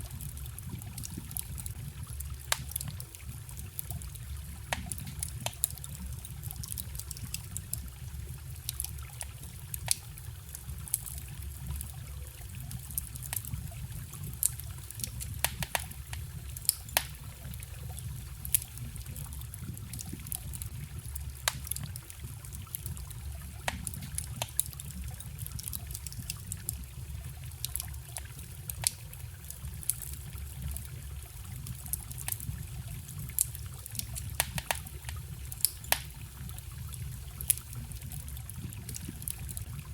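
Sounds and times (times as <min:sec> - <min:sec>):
forest stream trickling: 0:00.0 - 0:39.9
wood fire crackling and popping: 0:00.0 - 0:39.9.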